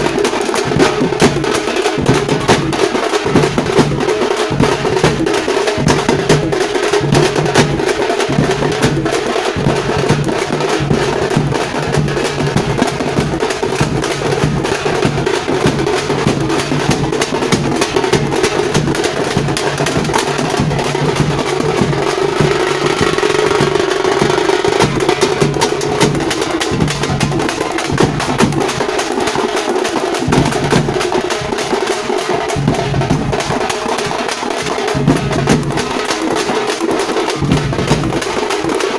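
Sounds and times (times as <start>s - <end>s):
frame drums beaten fast: 0.0s - 38.9s.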